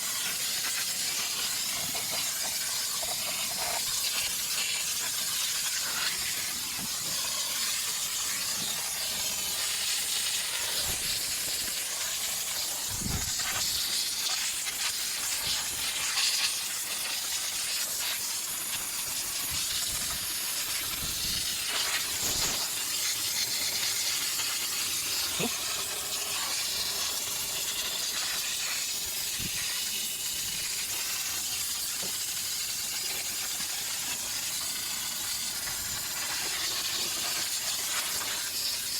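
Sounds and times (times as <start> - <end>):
steam jet hissing: 0.0 - 38.9.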